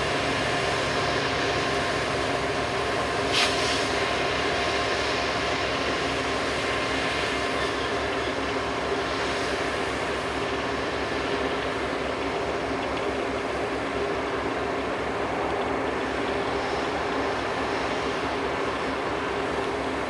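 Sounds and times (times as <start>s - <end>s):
diesel locomotive engines droning: 0.0s - 20.0s.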